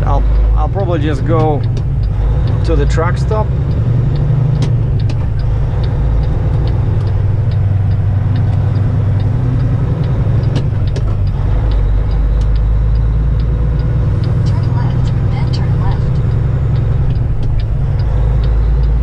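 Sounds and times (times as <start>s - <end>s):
faint regular ticking: 0.0s - 19.0s
truck diesel engine droning: 0.0s - 19.0s.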